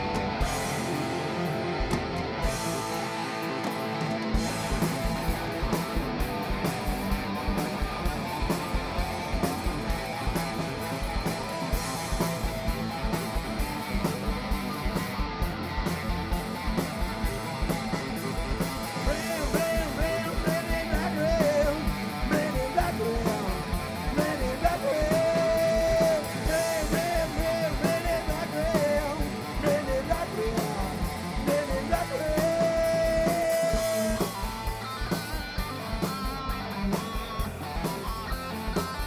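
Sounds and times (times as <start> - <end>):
live heavy metal band: 0.0 - 39.0
wavering lead guitar melody: 0.0 - 39.0.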